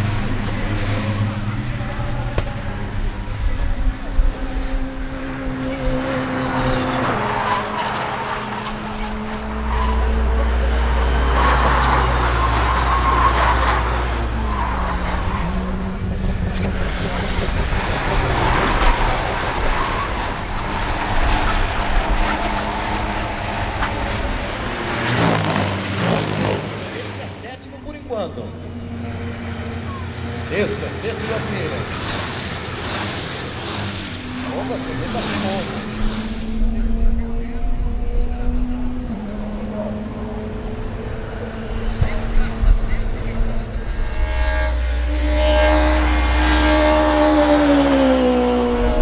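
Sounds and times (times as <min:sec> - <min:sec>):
race car engine revving: 0:00.0 - 0:49.0.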